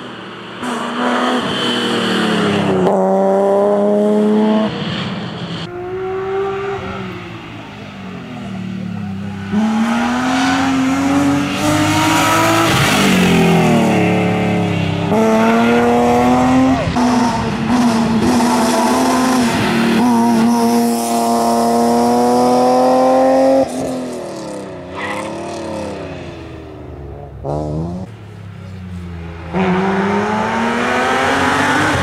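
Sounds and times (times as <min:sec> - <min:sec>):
rally car engine at full throttle: 0:00.0 - 0:32.0.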